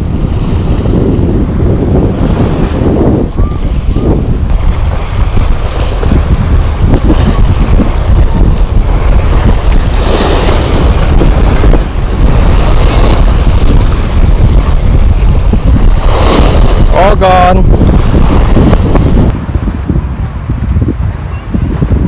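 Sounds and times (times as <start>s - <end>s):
waves splashing against rocks: 0.0s - 19.3s
wind buffeting microphone: 0.0s - 22.0s.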